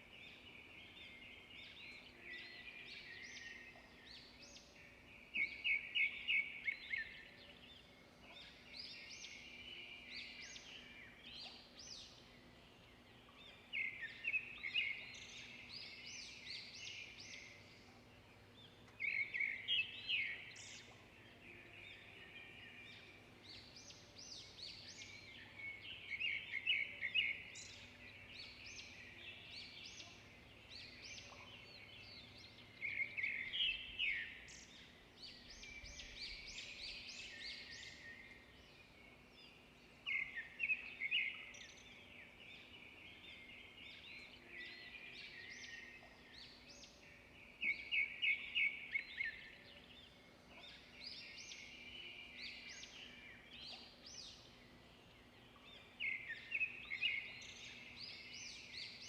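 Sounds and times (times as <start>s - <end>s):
songbirds trilling song: 0.0s - 59.0s.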